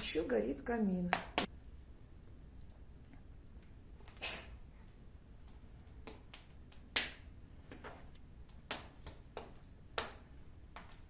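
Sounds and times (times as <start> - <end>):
firewood crackling in fireplace: 0.0 - 11.0.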